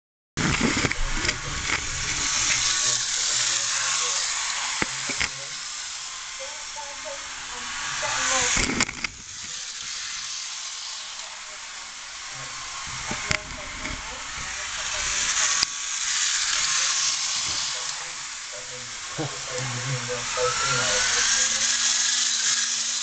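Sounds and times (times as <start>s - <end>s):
model trains whirring: 0.4s - 23.0s.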